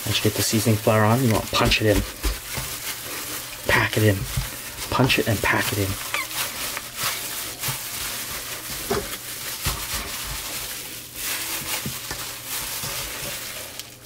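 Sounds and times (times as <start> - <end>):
flour rustling and crunching: 0.0 - 14.0
hands patting flour onto chicken: 0.1 - 14.0.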